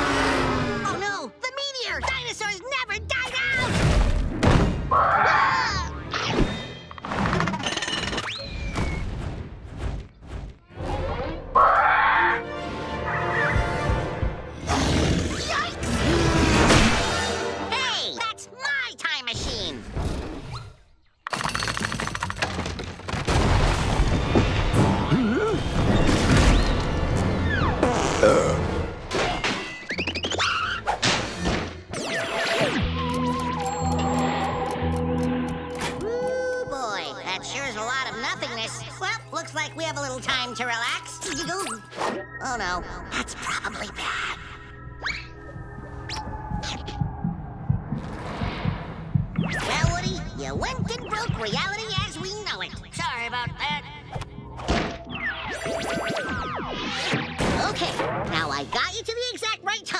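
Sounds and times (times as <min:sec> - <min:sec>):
fast cartoon background music: 0:00.0 - 0:09.2, 0:09.8 - 0:20.6, 0:24.2 - 0:59.9.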